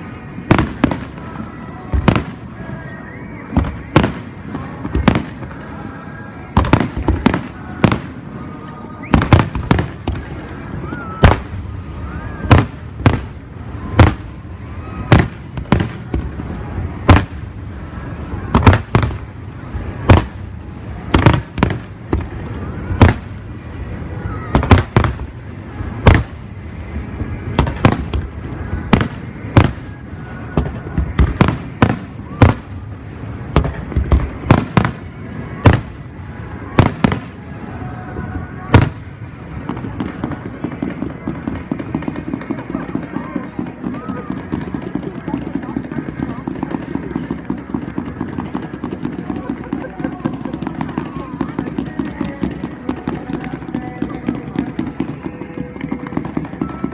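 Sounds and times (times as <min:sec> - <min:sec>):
crowd voices: 0:00.0 - 0:56.9
fireworks bursting with echo: 0:00.0 - 0:56.9.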